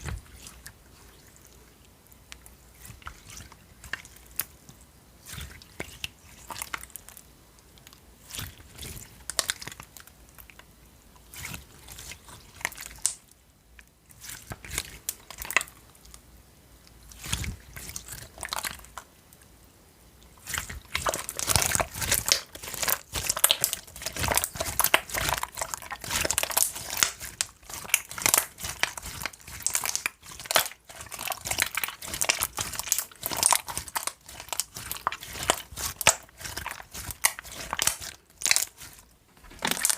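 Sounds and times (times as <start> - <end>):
slime squelching: 0.0 - 16.2, 16.8 - 19.5, 20.1 - 39.9.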